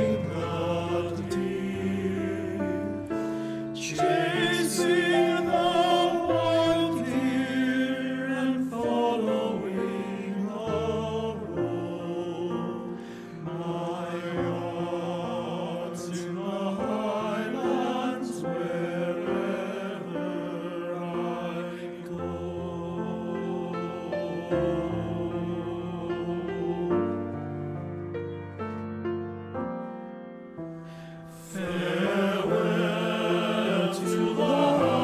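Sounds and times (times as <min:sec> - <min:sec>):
choir singing sustained chords: 0:00.0 - 0:28.8, 0:30.8 - 0:35.0.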